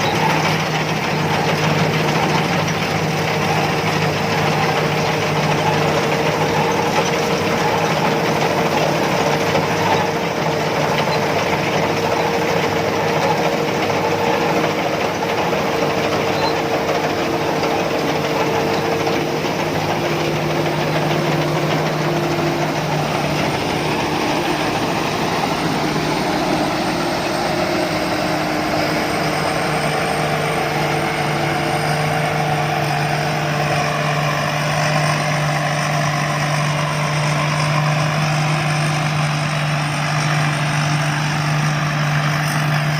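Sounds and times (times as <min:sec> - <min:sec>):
combine harvester engine droning: 0:00.0 - 0:42.9.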